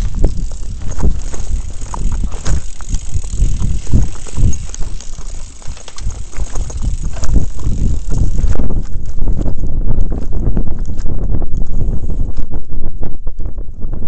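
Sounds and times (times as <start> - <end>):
bike knocks and rattles: 0.0 - 12.0
bike tyres on dirt trail: 0.0 - 12.8.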